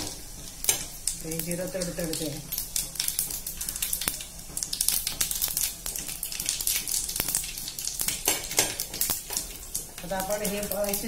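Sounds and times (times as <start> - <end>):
seeds crackling in hot oil: 0.0 - 11.0.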